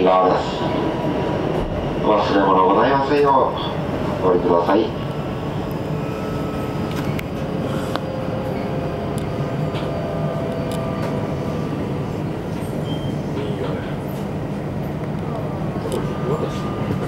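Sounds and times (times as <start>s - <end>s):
train car rumbling on track: 0.0s - 17.0s.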